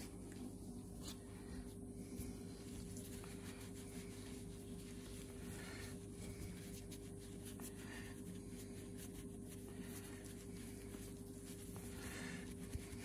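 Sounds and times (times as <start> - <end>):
steady low hum: 0.0 - 13.0
cloth rubbing on metal: 2.5 - 13.0.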